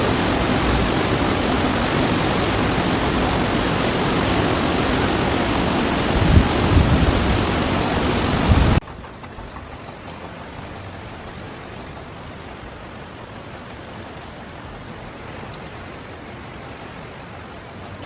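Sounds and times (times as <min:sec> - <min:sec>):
rain hiss: 0:00.0 - 0:18.0
rushing water roar: 0:00.0 - 0:18.0.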